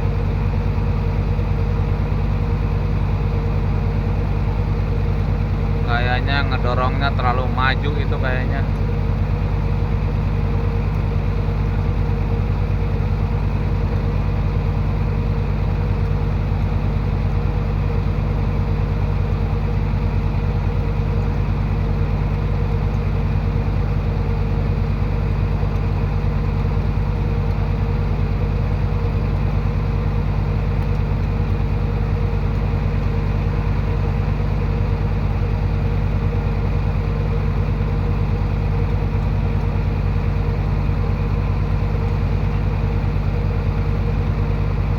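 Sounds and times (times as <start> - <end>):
heavy diesel engine idling: 0.0 - 44.9.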